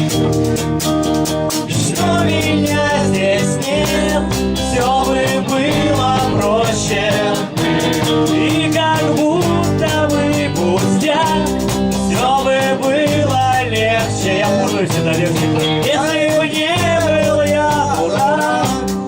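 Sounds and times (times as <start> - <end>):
drum kit beat: 0.0 - 19.0
guitar: 0.0 - 19.0
person singing: 1.6 - 19.0.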